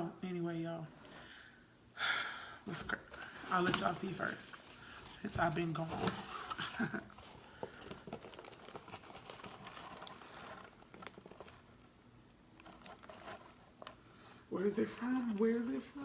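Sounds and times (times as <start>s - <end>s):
packaging rustling and crinkling: 2.7s - 16.0s.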